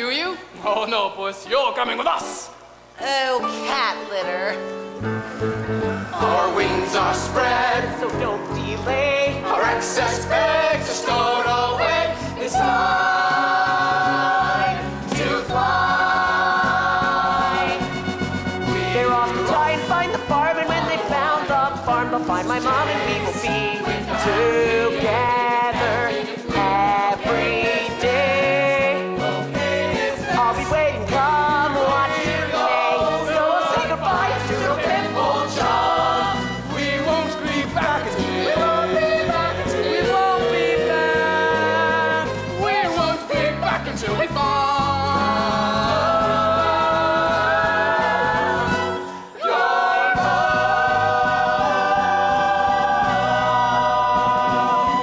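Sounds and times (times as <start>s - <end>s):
instrumental accompaniment: 3.0s - 55.0s
group of voices singing: 6.1s - 55.0s.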